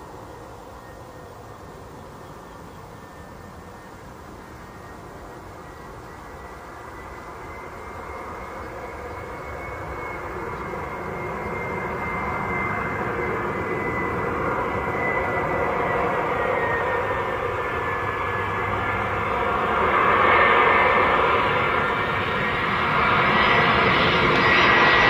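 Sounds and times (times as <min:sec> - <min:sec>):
jet engines roaring and whining: 0:00.0 - 0:25.0.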